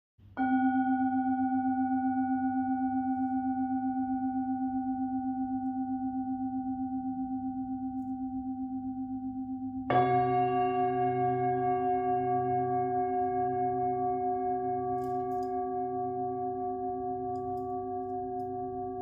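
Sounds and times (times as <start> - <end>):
singing bowl ringing: 0.4 - 19.0.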